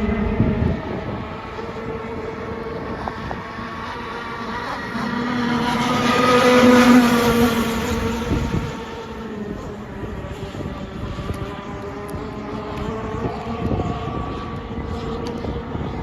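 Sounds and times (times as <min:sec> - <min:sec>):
rc boat engine buzzing: 0:00.0 - 0:16.0.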